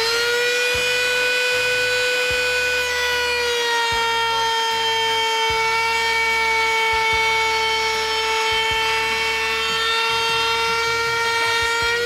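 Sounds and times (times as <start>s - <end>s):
router whining: 0.0s - 12.0s.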